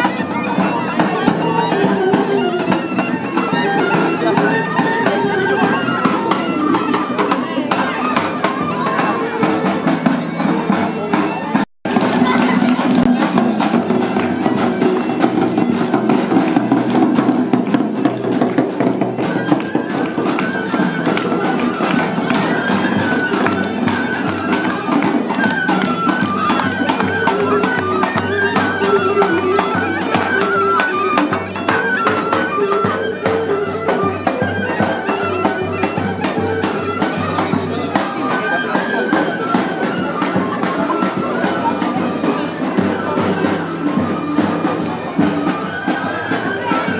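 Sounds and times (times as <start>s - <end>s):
drum beating: 0.0s - 46.9s
wind instrument melody: 0.0s - 46.9s.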